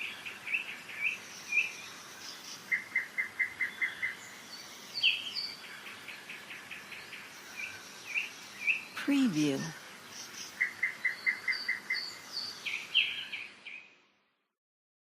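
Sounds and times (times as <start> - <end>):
songbirds singing: 0.0 - 14.3.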